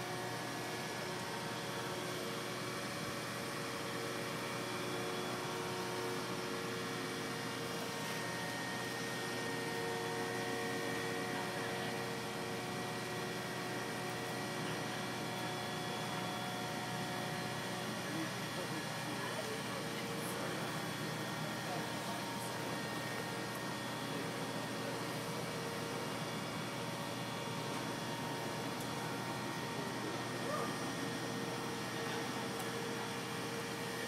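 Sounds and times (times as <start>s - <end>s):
crane engine and hydraulics whining: 0.0s - 34.0s.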